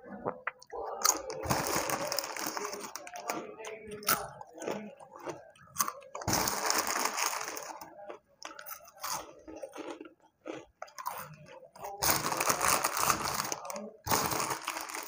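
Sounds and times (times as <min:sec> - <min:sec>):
crunching crispy snack: 0:01.0 - 0:15.0.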